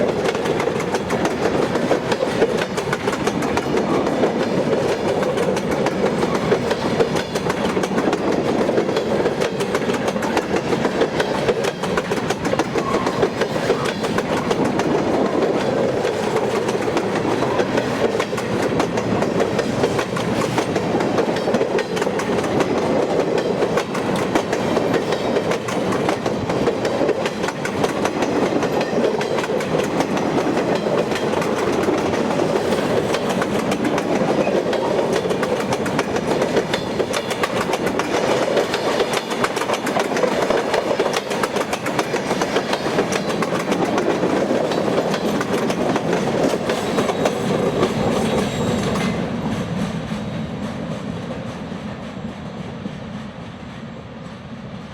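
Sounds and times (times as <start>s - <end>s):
wheels clicking over rail joints: 0.0s - 50.0s
freight train rolling past: 0.0s - 54.9s.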